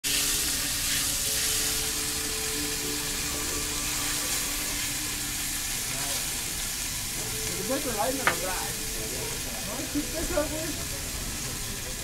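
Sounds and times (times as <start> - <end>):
sizzling on a steel griddle: 0.0 - 12.0.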